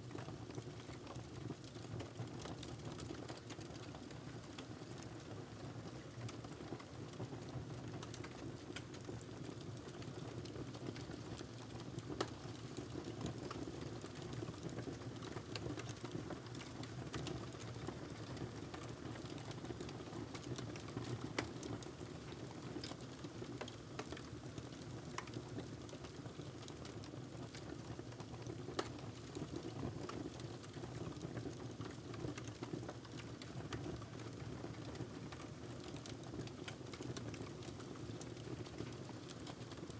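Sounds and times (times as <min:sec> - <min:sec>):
wood fire crackling: 0:07.8 - 0:39.9.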